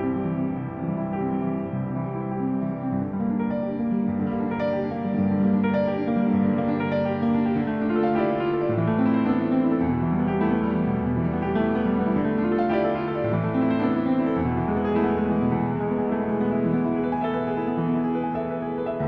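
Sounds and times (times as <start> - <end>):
piano music with sustained chords: 0.0 - 19.0.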